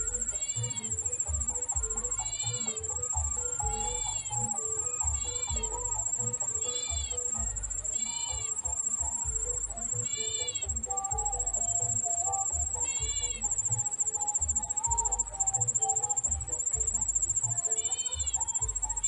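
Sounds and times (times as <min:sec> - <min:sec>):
bird mewing calls: 0:00.0 - 0:19.0
insects buzzing: 0:00.0 - 0:19.0.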